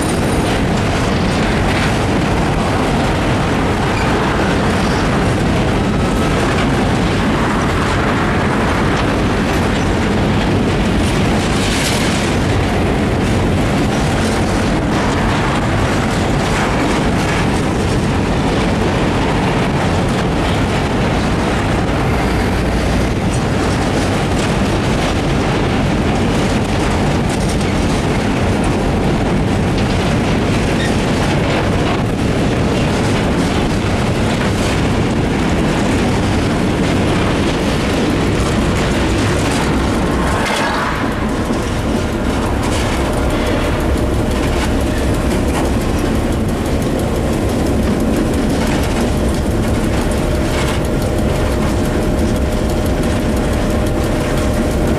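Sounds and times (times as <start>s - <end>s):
diesel locomotive engine: 0.0s - 54.9s
train wheels rolling over bridge rails: 0.0s - 54.9s.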